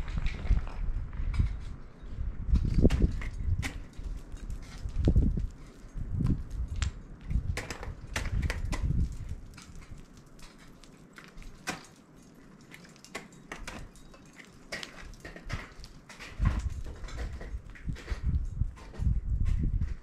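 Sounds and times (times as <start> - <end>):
ice climbing gear striking ice: 2.6 - 19.7.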